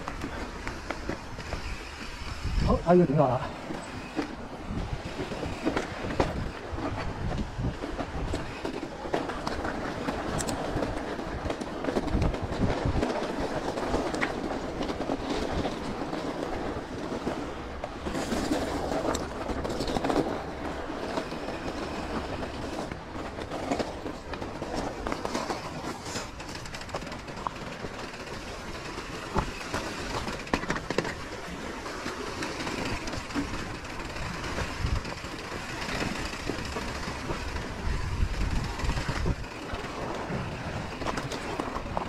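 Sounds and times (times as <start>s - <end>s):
mountain bike rattling over rocks: 0.1s - 42.0s.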